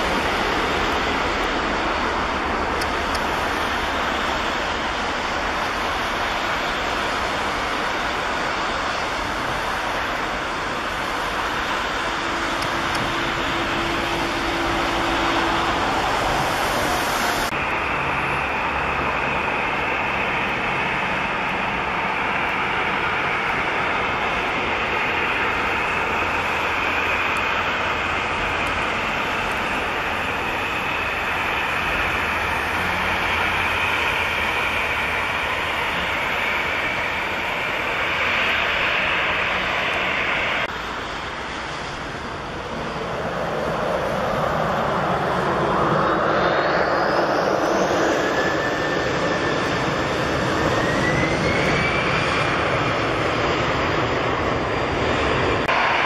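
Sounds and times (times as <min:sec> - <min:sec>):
jet engines roaring at takeoff: 0:00.0 - 0:56.0
turboprop propellers droning: 0:00.0 - 0:56.0.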